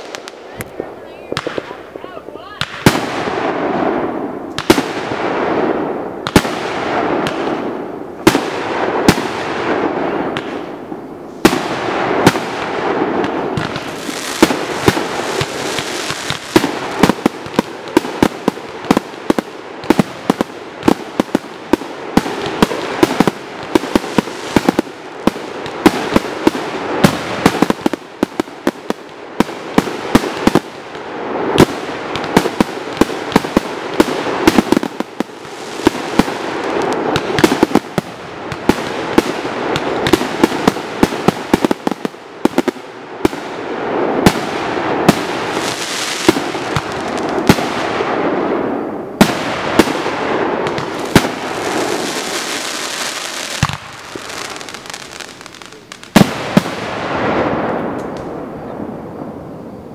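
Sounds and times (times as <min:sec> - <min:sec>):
fireworks banging: 0:00.0 - 0:59.4.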